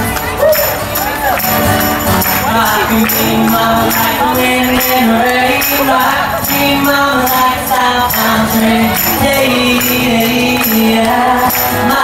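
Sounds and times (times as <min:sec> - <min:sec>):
audience singing folk-country song: 0:00.0 - 0:12.0
tambourine jingling: 0:00.5 - 0:12.0.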